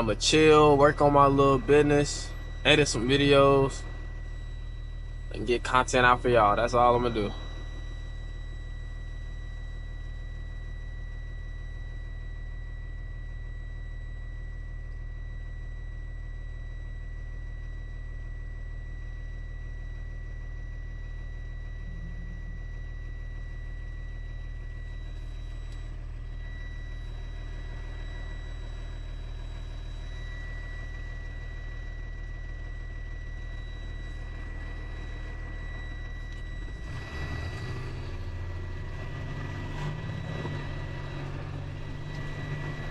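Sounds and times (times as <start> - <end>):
high whine: 0.0 - 42.9
truck engine hum from inside cab: 0.0 - 42.9.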